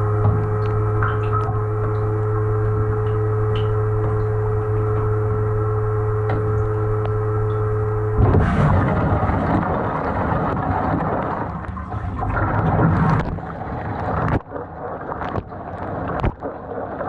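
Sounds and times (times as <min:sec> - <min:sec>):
dishwasher pump motor humming: 0:00.0 - 0:16.7.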